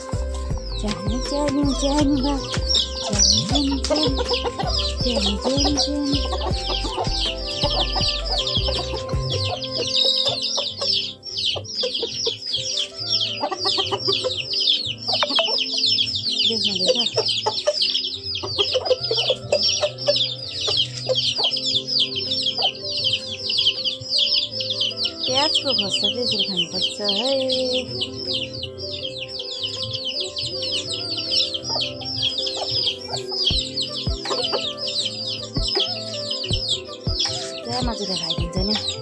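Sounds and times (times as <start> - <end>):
background music: 0.0 - 39.0
fast high chirping: 0.0 - 39.0
roosters clucking: 0.0 - 39.0.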